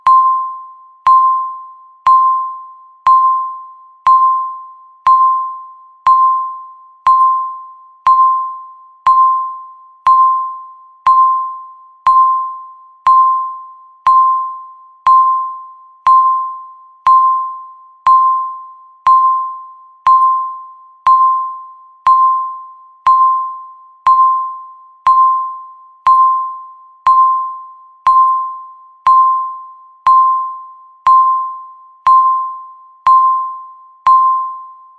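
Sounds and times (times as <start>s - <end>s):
countdown timer beeping: 0.0s - 34.8s.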